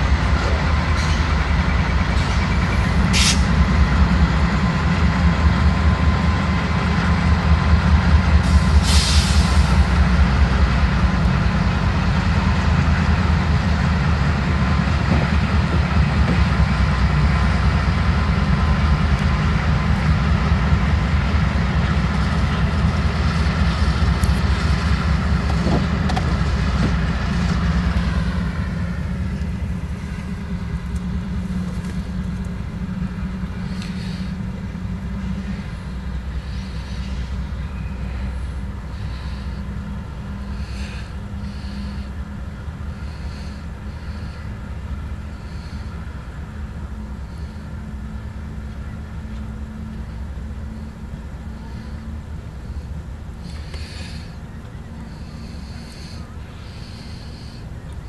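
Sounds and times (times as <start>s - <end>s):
diesel locomotives running: 0.0s - 58.0s
freight cars rolling on rails: 0.0s - 58.0s.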